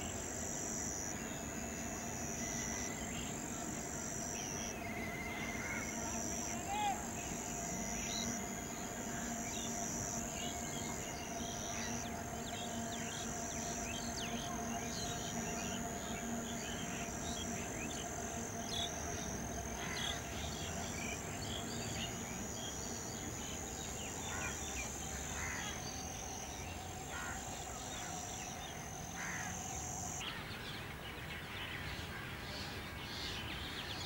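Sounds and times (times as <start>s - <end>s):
faint high whine: 0.0s - 34.0s
outdoor background hiss: 0.0s - 34.0s.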